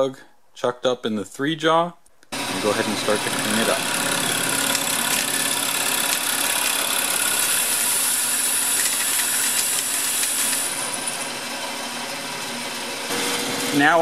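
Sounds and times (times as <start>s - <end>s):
lathe motor hum: 2.4s - 14.0s.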